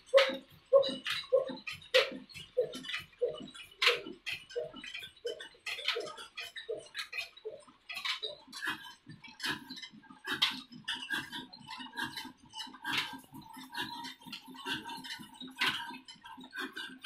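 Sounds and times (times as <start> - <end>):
engine clicking and clatter: 0.0 - 17.0.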